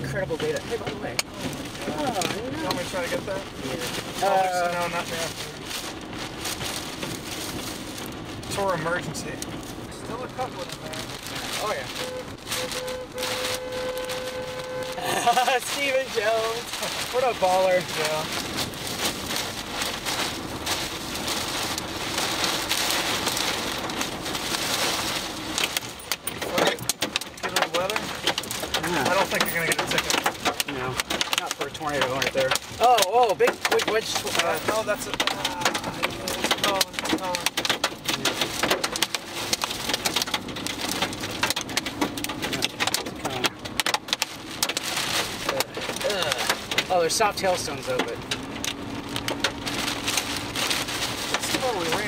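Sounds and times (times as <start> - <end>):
heavy rain on a car: 0.0 - 52.0.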